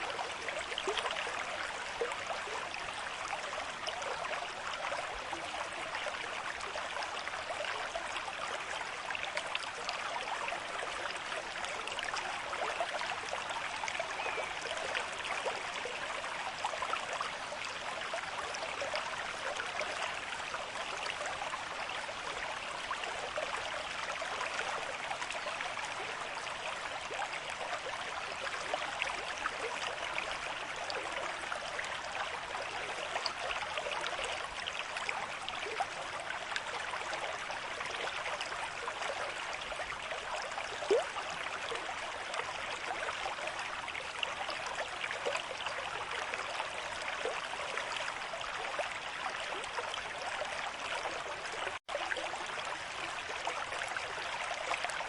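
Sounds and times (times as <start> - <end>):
river stream babbling: 0.0 - 55.0.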